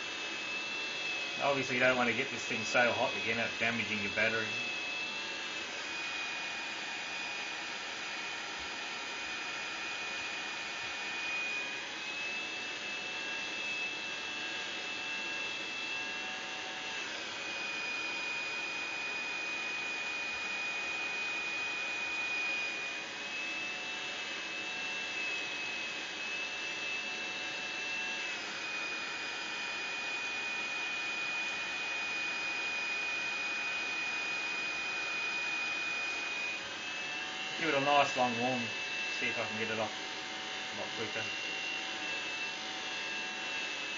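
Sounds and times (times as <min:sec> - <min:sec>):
hairdryer blowing with whine: 0:00.0 - 0:43.9.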